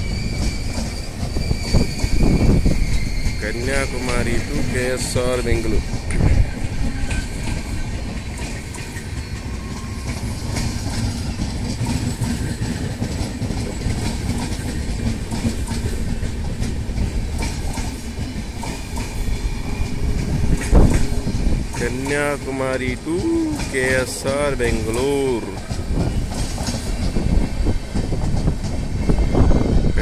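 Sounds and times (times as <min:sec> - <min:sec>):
train wheels rumbling on rails: 0:00.0 - 0:30.0
wheels clicking over rail joints: 0:00.2 - 0:29.2.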